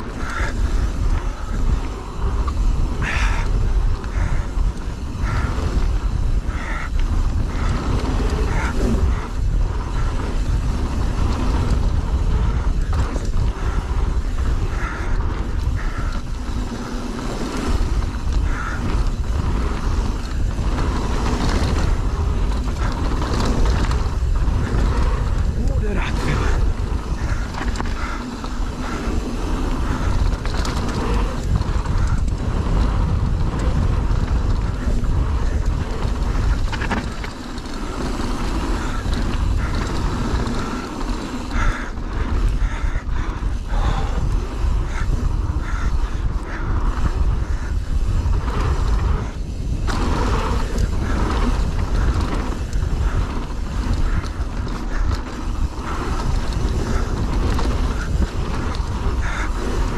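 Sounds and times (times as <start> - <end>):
bike clattering and rattling: 0.0 - 59.9
bike tyres rumbling over dirt: 0.0 - 59.9.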